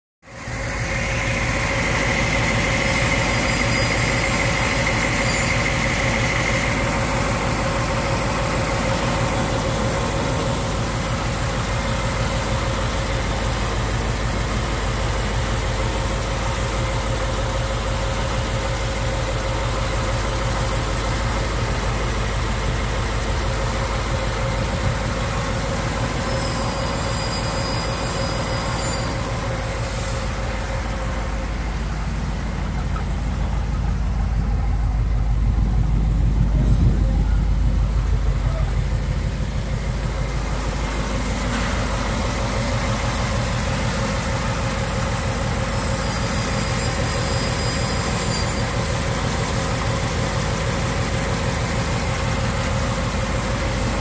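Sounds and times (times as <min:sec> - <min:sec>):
car engine idling: 0:00.2 - 0:54.0
engine whine: 0:00.2 - 0:54.0.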